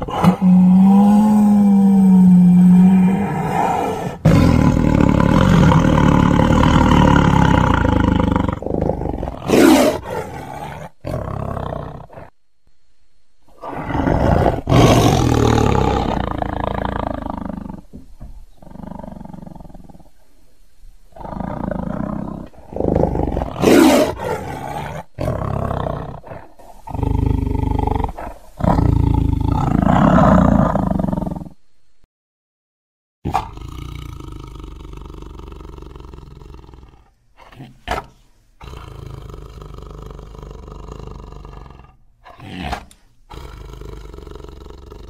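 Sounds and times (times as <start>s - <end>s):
tiger roaring and growling: 0.0s - 12.4s, 13.5s - 20.2s, 21.1s - 31.6s, 33.3s - 45.0s.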